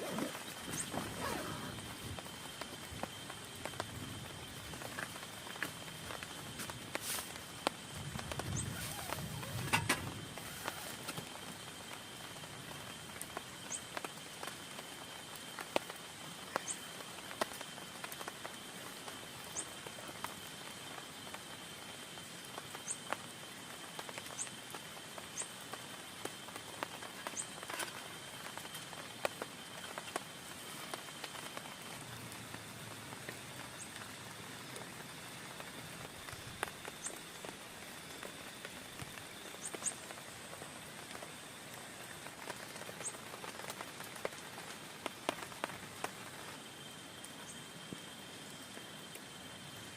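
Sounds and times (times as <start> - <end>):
rain tapping on tent fabric: 0.0 - 49.9.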